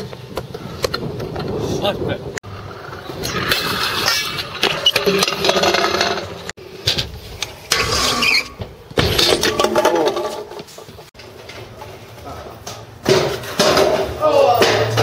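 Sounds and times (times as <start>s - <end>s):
scooter wheels rolling on concrete: 0.0s - 15.0s.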